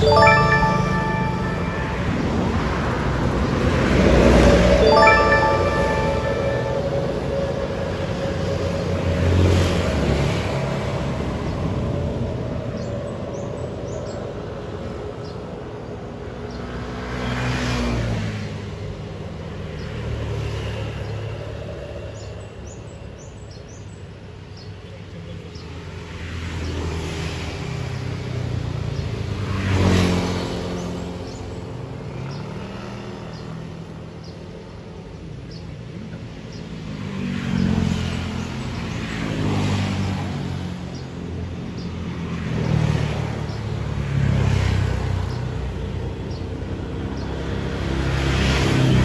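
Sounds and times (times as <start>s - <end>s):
trucks and buses passing: 0.0s - 22.1s, 25.8s - 49.0s.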